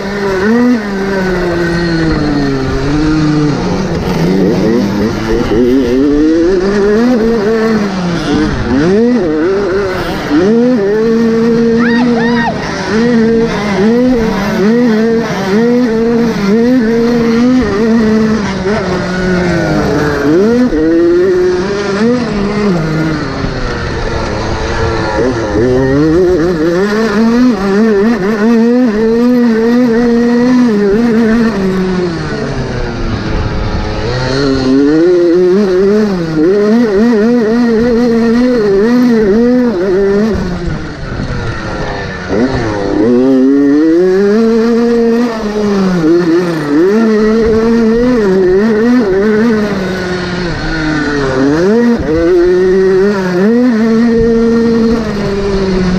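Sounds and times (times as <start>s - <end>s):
motocross motorcycle engines revving: 0.0s - 55.9s.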